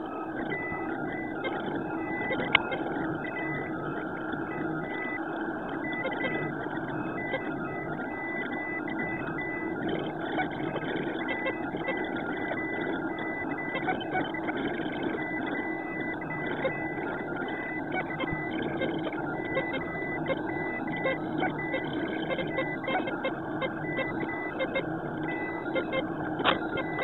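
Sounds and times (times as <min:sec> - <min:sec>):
steady printer whir: 0:00.0 - 0:27.0.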